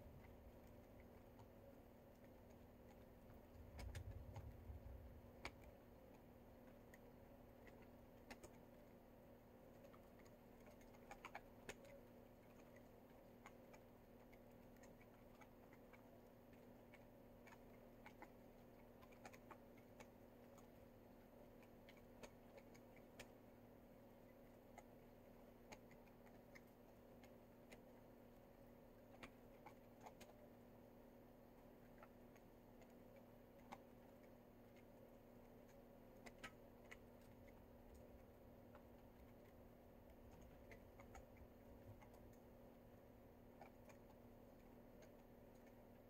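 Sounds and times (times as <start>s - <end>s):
faint steady hum: 0.0s - 46.0s
soft ticks and clicks: 0.0s - 46.0s.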